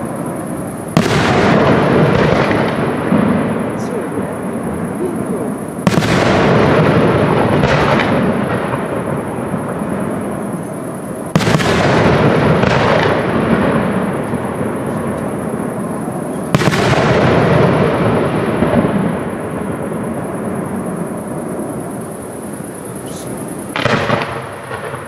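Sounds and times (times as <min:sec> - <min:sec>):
fireworks bursting: 0:00.0 - 0:25.0
rolling rumble of echo: 0:00.0 - 0:25.0.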